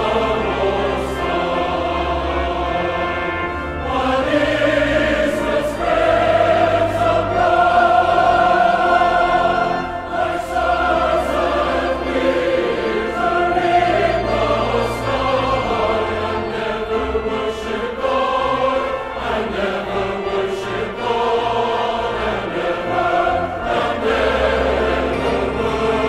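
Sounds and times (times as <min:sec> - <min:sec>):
choir singing held notes: 0:00.0 - 0:26.0.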